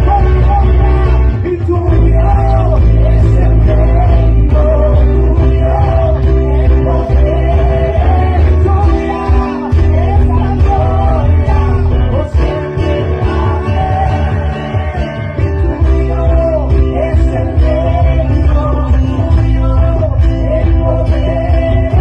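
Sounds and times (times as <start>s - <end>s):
deep sustained bass notes: 0.0s - 22.0s
held chords: 0.0s - 22.0s
person singing: 0.0s - 22.0s.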